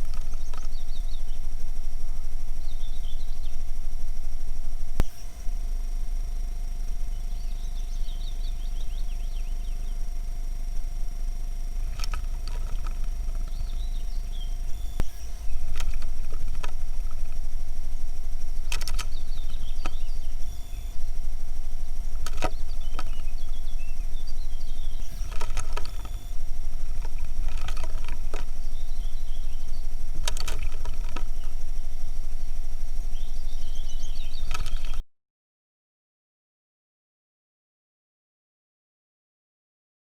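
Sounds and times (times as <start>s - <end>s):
sharp clicks: 0.0s - 4.0s, 4.6s - 9.1s, 9.8s - 32.2s, 33.0s - 35.0s
songbirds chirping: 0.0s - 35.0s
steady low rumble: 0.0s - 35.0s.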